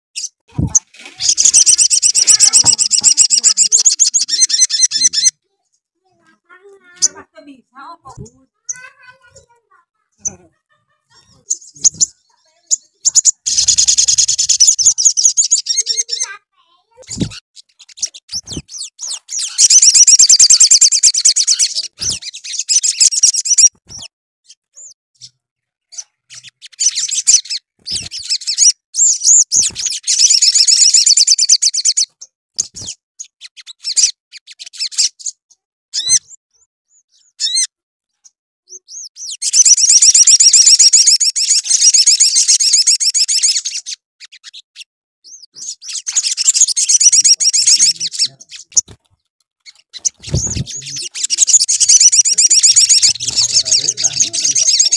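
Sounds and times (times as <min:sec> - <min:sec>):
sunbird trilling: 0:00.2 - 0:05.4, 0:08.6 - 0:09.5, 0:11.1 - 0:35.4, 0:36.0 - 0:37.7, 0:38.7 - 0:49.0, 0:49.7 - 0:54.9
bird chirps: 0:00.2 - 0:54.9.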